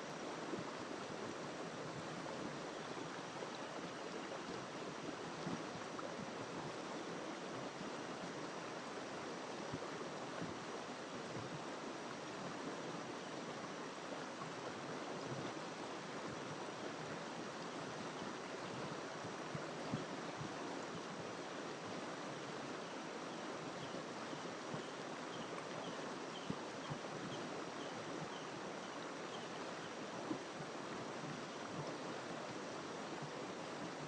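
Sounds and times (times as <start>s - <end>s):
river flowing over rocks: 0.0s - 34.0s.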